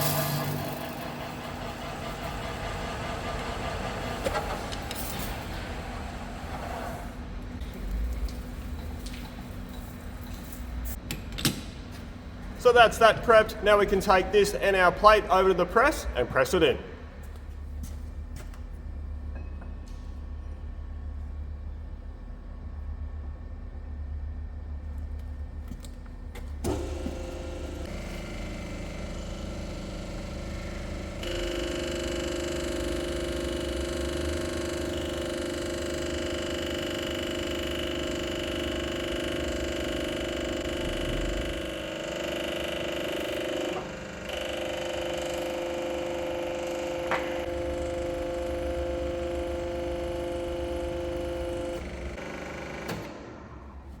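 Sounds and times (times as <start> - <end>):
hydraulic pump whine: 0.0 - 10.9, 17.0 - 54.0.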